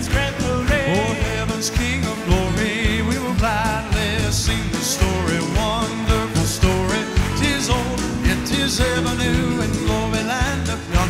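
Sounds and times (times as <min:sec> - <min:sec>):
audience clapping along: 0:00.0 - 0:11.0
backing band playing: 0:00.0 - 0:11.0
man singing with vibrato: 0:00.0 - 0:11.0.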